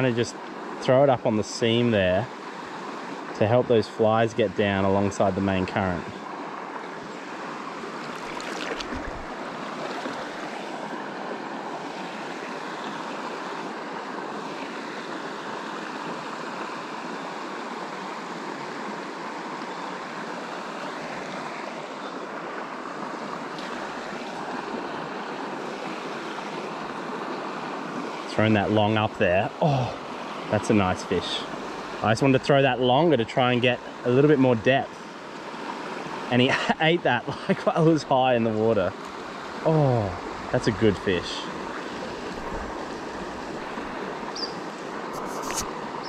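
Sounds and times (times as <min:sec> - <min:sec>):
river current rushing: 0:00.0 - 0:46.0.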